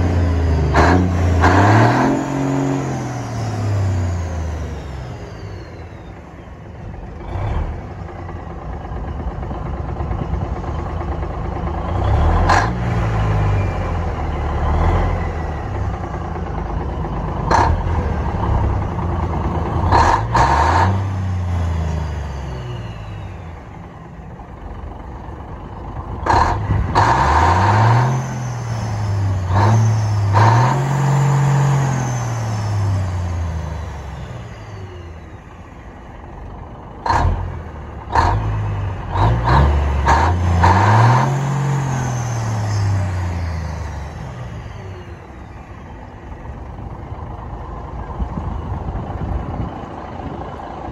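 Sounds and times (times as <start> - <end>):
diesel truck engine revving: 0.0 - 50.9.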